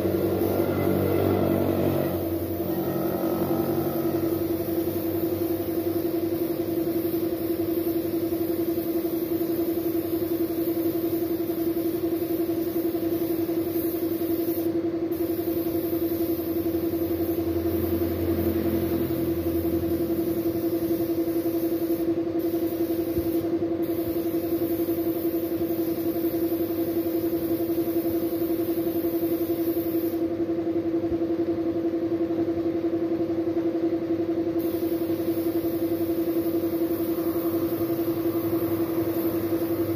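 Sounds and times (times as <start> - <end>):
spray gun hissing: 0.0 - 18.0, 19.6 - 30.2, 34.6 - 39.9
air compressor motor hum: 0.0 - 39.9.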